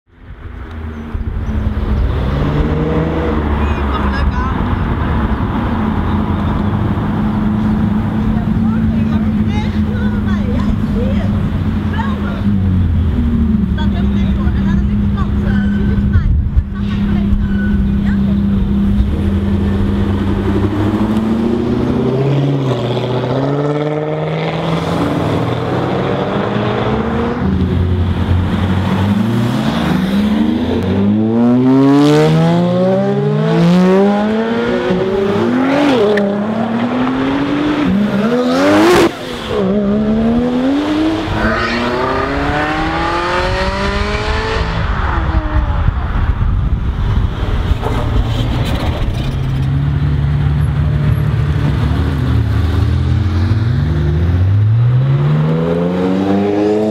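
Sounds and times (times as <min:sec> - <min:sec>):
sports car engines accelerating: 0:00.2 - 0:56.9.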